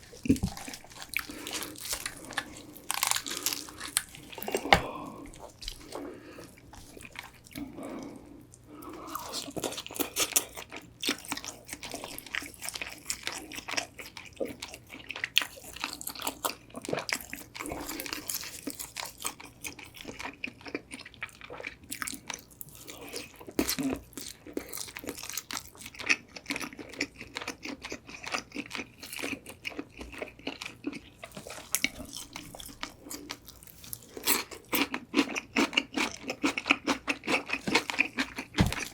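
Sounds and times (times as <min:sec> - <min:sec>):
crunching fried chicken: 0:00.0 - 0:38.9
soft chewing: 0:00.0 - 0:38.9.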